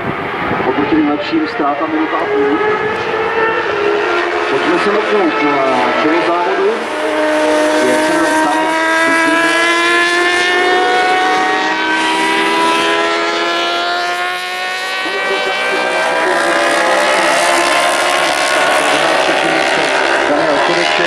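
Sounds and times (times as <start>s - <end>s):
racing motorcycles at high revs: 0.0s - 21.0s.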